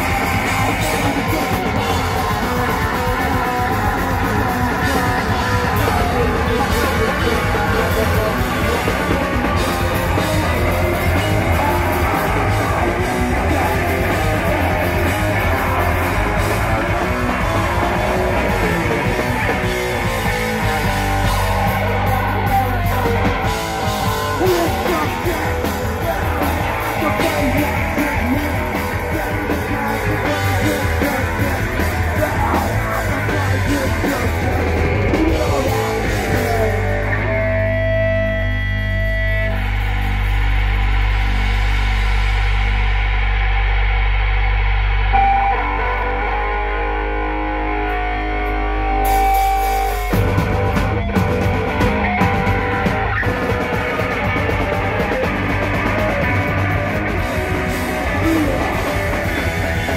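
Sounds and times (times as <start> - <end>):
singer shouting: 0.0 - 38.4, 45.2 - 59.9
drum kit: 0.0 - 45.5, 47.6 - 59.9
bass guitar: 0.0 - 59.9
distorted electric guitar: 0.0 - 59.9.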